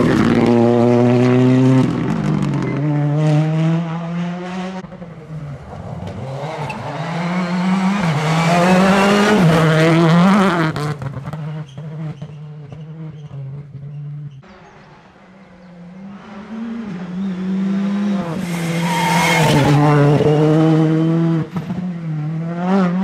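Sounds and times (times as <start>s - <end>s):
rally car passing at speed: 0.0s - 23.0s.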